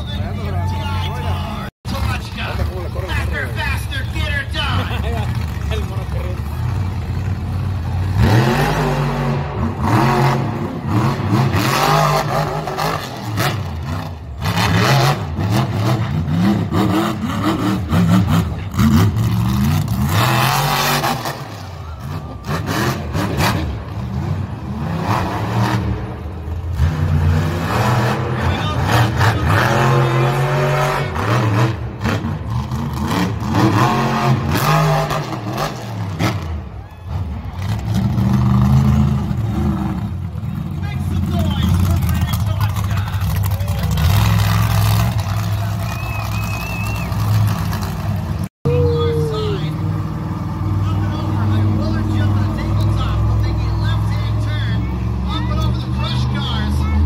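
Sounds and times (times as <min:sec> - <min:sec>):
monster truck engines revving: 0:00.0 - 0:57.0.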